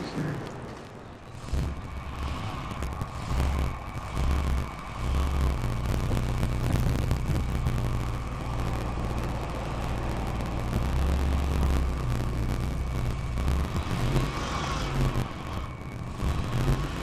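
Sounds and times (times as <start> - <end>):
race car engine idling: 1.2 - 17.0.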